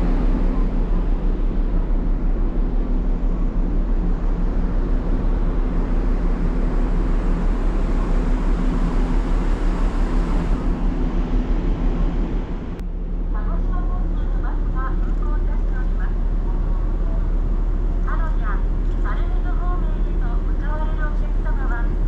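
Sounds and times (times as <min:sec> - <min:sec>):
constant hum tones: 0:00.0 - 0:22.0
ship engines droning: 0:00.0 - 0:22.0.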